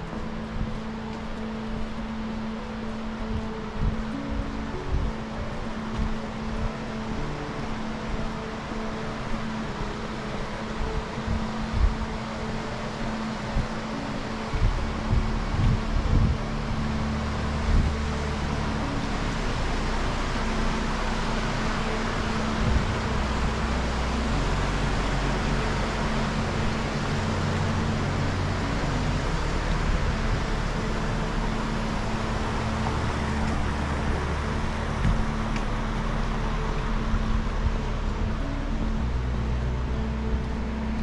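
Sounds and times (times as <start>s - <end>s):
road traffic rushing: 0.0s - 41.0s.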